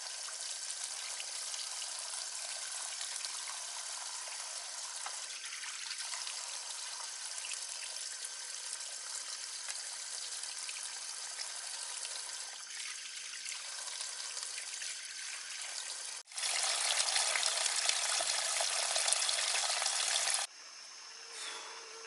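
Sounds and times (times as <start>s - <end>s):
full running water: 0.0s - 20.5s
water trickling: 0.0s - 20.5s.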